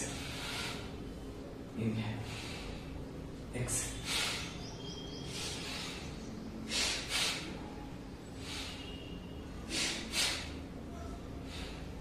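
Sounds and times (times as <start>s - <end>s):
forceful hissing breaths: 0.0s - 12.0s.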